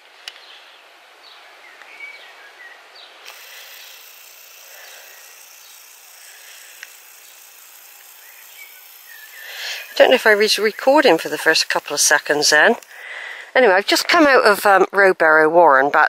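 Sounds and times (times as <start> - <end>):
steady hiss: 0.0 - 14.6.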